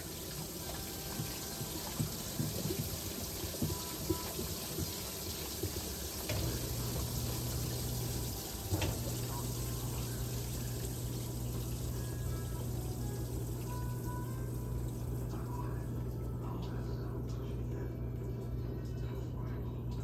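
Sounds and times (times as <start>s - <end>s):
water draining: 0.0s - 19.0s
washing machine humming: 0.0s - 20.0s.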